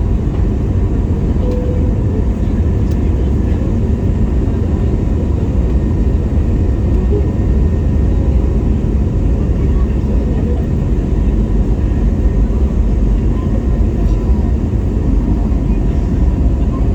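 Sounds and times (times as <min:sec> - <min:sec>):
jet engine rumble: 0:00.0 - 0:16.9.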